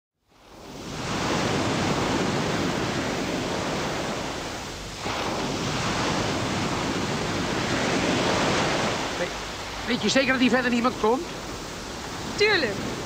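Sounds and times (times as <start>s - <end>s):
strong wind blowing: 0.4s - 13.0s.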